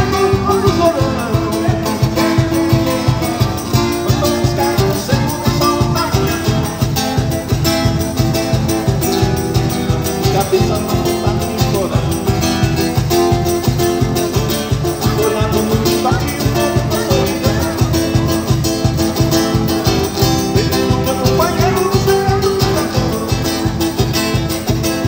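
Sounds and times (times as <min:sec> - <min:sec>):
electric guitar: 0:00.0 - 0:25.0
fast steady beat: 0:00.0 - 0:25.0.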